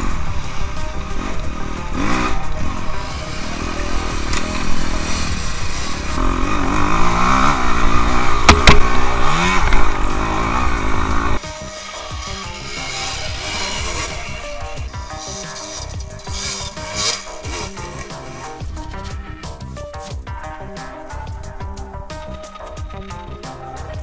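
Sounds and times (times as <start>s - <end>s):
dirt bike engines revving: 0.0s - 21.2s.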